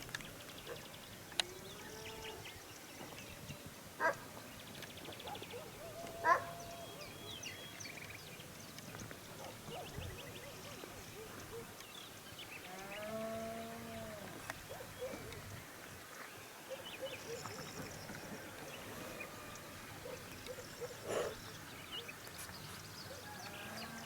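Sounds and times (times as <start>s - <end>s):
small birds chirping: 0.2s - 24.0s.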